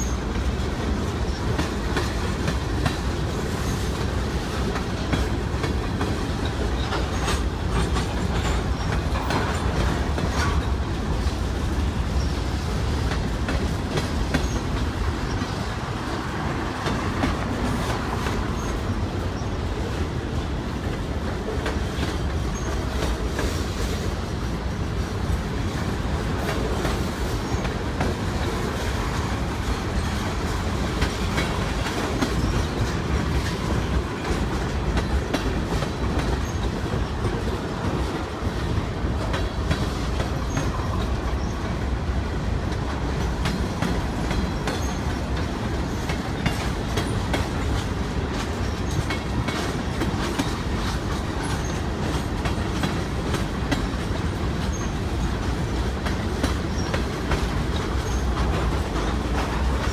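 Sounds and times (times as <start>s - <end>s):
freight train rumbling past: 0.0s - 59.9s
wheels clacking over rail joints: 0.0s - 59.9s.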